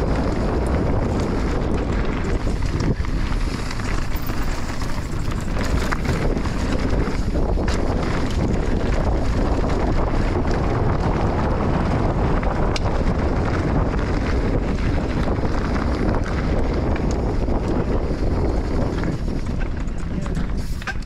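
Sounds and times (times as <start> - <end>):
motorcycle engine: 0.0 - 20.6
wind buffeting microphone: 0.0 - 21.0.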